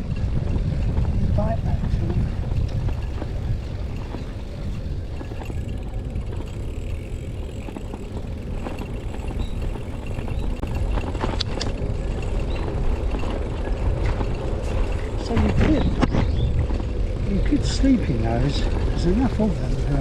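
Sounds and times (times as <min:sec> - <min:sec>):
bicycle tyres rolling: 0:00.0 - 0:20.0
wind buffeting microphone: 0:00.0 - 0:20.0.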